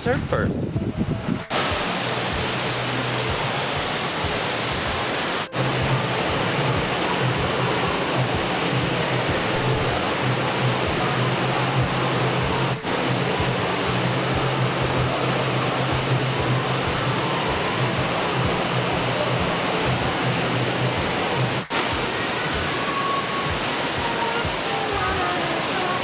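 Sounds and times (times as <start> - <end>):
loud rush of pumped water: 0.9 - 26.0.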